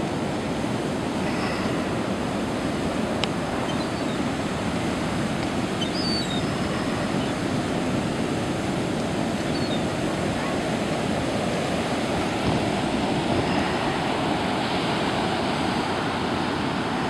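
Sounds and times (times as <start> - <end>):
heavy surf breaking: 0.0 - 17.0.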